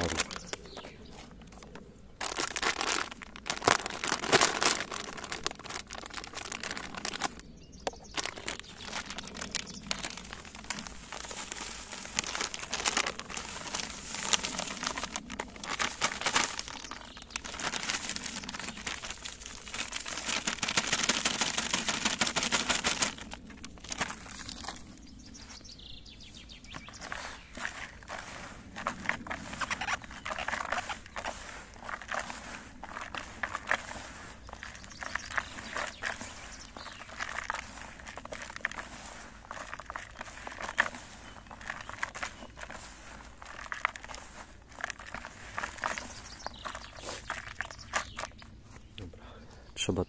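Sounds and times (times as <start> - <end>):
bait rustling and crackling by hand: 0.0 - 49.0.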